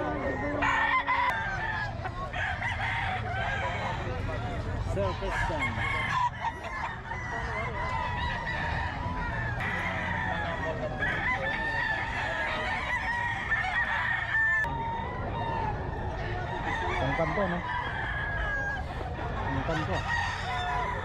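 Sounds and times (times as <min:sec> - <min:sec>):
roosters clucking: 0:00.0 - 0:21.0
roosters crowing: 0:00.0 - 0:21.0.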